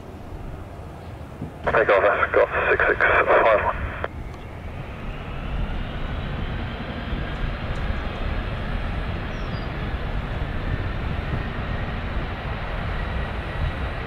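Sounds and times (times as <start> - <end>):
high jet whine: 0.0 - 14.0
jet engines rumbling: 0.0 - 14.0.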